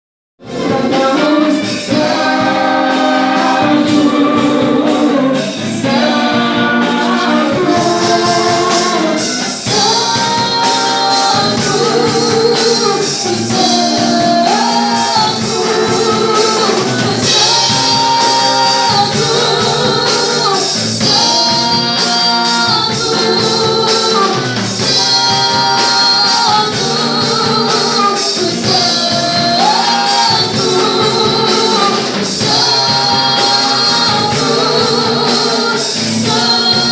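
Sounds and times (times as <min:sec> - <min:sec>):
worship band playing: 0:00.4 - 0:36.9.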